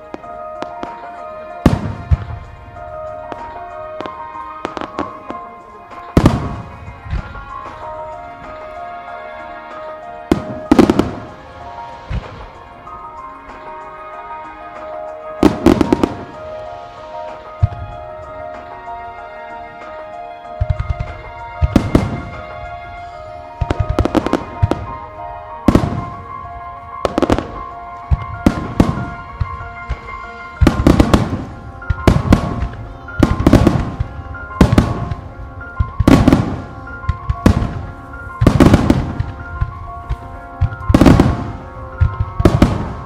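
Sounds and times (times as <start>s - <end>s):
fireworks bursting in loud bangs: 0.0s - 8.7s, 10.3s - 13.8s, 15.4s - 18.1s, 20.6s - 23.0s, 23.6s - 26.4s, 27.0s - 43.0s
music playing: 0.0s - 43.0s.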